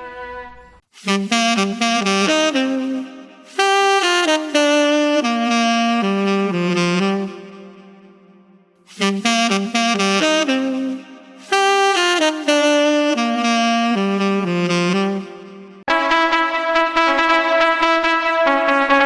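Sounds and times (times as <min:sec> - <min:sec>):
jazzy wind instrument melody: 0:00.0 - 0:08.2, 0:08.9 - 0:19.0
horn chords over steady beat: 0:01.0 - 0:08.3, 0:08.9 - 0:19.0.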